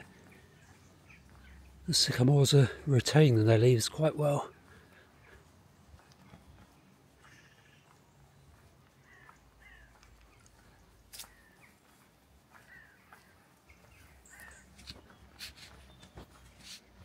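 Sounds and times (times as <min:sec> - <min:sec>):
wild bird calls: 0:00.0 - 0:02.7, 0:04.4 - 0:16.8.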